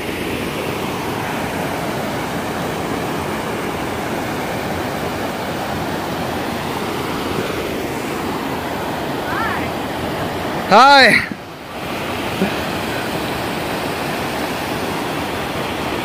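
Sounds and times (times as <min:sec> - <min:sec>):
river rushing over boulders: 0:00.0 - 0:16.0.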